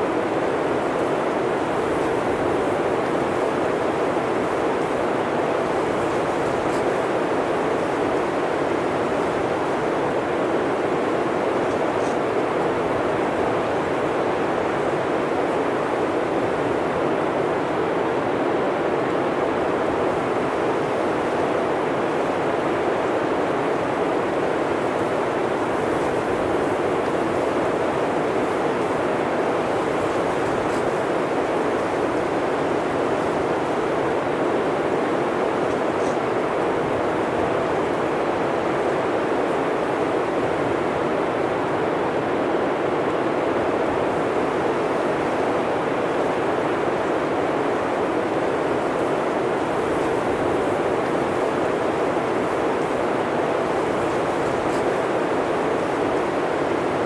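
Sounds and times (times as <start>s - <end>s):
blizzard wind blowing: 0.0s - 57.0s.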